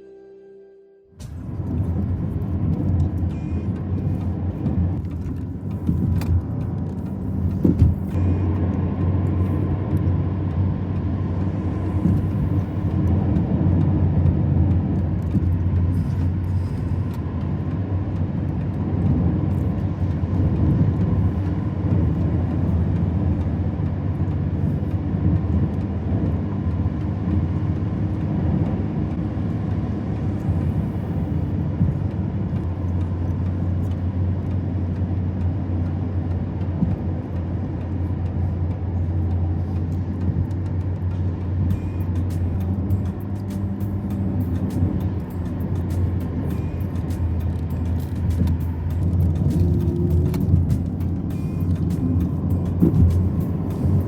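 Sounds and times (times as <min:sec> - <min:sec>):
engine and road rumble: 0:01.0 - 0:54.0.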